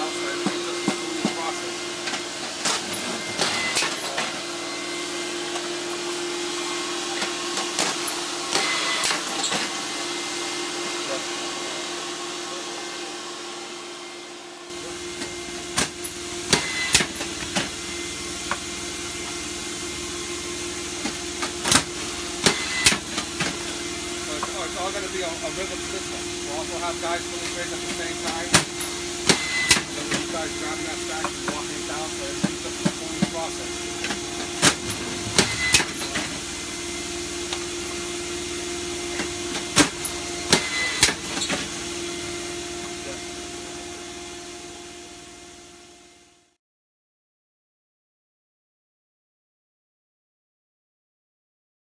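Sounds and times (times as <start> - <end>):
seeder machine humming: 0.0 - 45.9.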